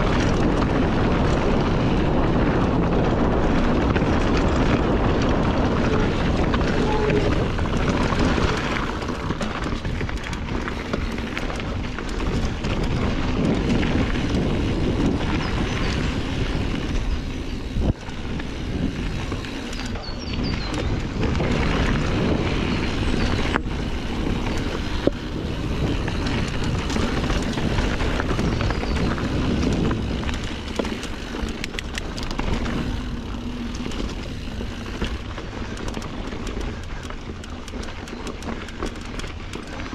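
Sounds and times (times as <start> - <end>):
bike rattling over bumps: 0.0 - 39.9
bike tyres crunching on dirt: 0.0 - 39.9
wind rumbling on microphone: 0.0 - 39.9.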